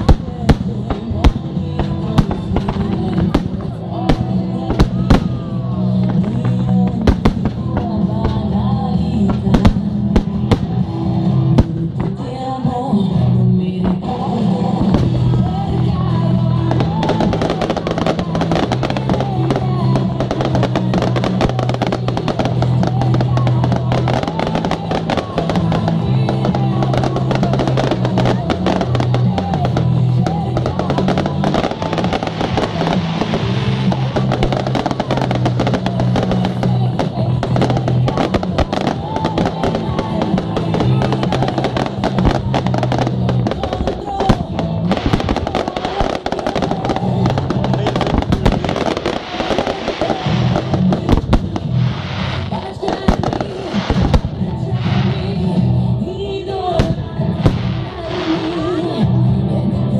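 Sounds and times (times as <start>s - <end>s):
fireworks bursting and crackling: 0.0s - 59.2s
loud music with deep bass: 0.0s - 59.9s.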